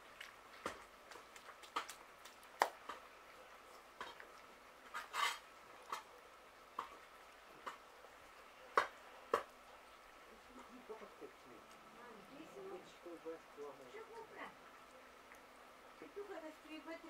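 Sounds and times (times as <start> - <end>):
cats chewing and crunching: 0.0 - 16.4.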